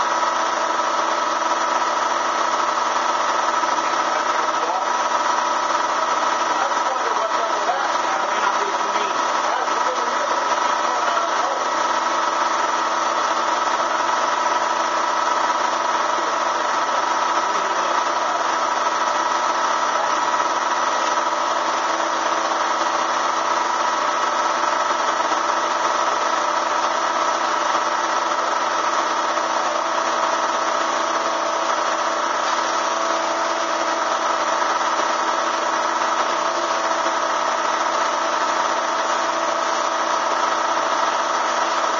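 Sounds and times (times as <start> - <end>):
vacuum motor whine: 0.0 - 41.9.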